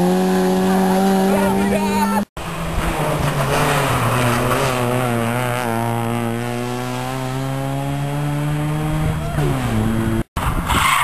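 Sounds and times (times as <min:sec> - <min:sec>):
rally car engine revving: 0:00.0 - 0:10.3.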